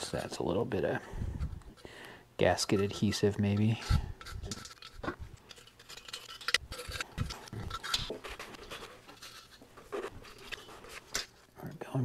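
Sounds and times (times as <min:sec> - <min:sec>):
scraping metal parts: 0:01.7 - 0:11.5.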